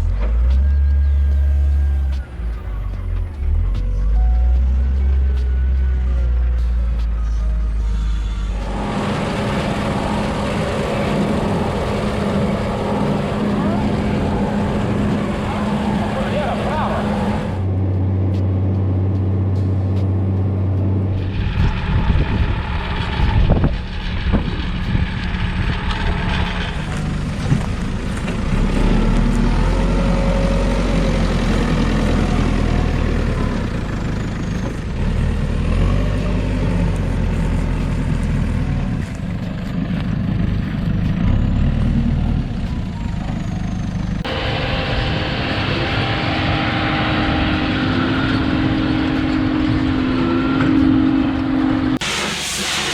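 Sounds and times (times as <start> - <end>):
heavy machinery engines running: 0.0 - 52.9.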